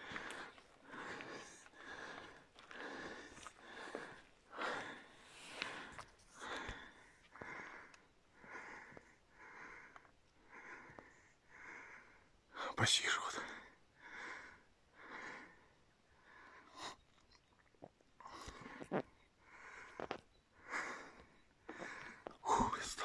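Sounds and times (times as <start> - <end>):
person breathing heavily: 0.0 - 12.3, 14.0 - 16.8, 18.3 - 23.0.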